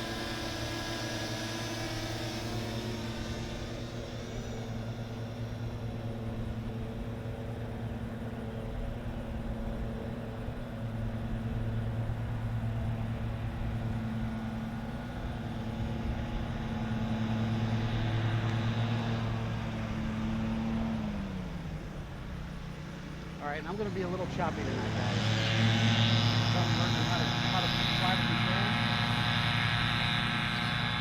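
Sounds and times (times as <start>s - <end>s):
low motor hum: 0.0s - 31.0s.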